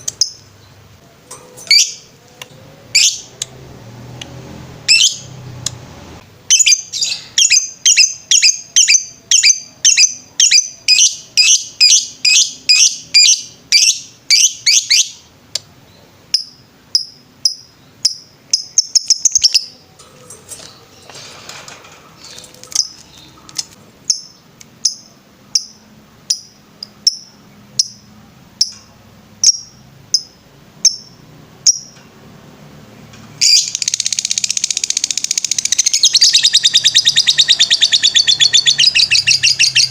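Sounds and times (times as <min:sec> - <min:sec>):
lovebird chirping: 0:00.0 - 0:01.0, 0:01.6 - 0:03.5, 0:04.8 - 0:05.5, 0:06.5 - 0:21.1, 0:22.2 - 0:32.0, 0:33.4 - 0:39.9.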